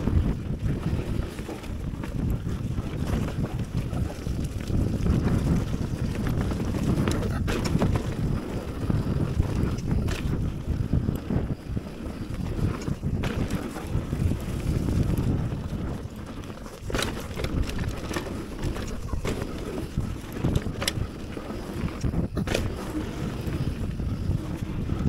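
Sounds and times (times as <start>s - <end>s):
bike clicks and rattles: 0.0s - 25.0s
tyres rolling on dirt trail: 0.0s - 25.0s
wind buffeting microphone: 0.0s - 25.0s.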